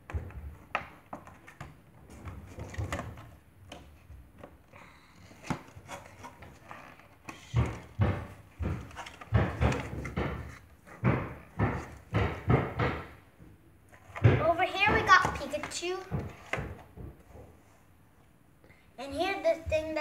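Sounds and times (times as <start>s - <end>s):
irregular thumps: 0.0s - 17.7s.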